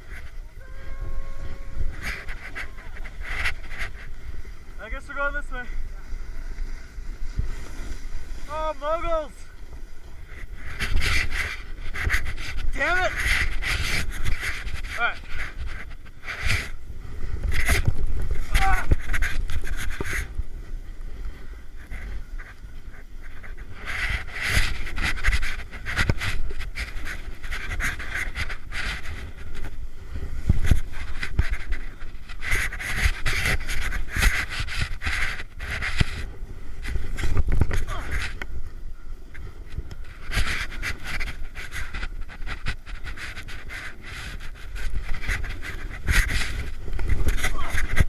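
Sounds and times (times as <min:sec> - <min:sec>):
snowboard scraping over snow: 0:00.0 - 0:38.8
low wind rumble: 0:00.0 - 0:48.0.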